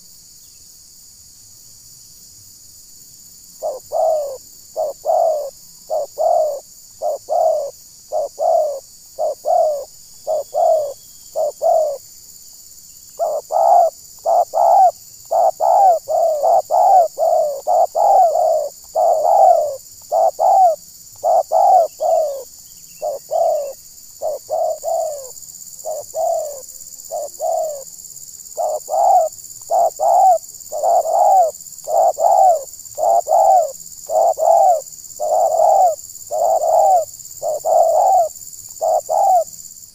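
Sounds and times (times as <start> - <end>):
doves cooing: 3.6 - 12.0, 13.2 - 27.9, 28.5 - 39.6.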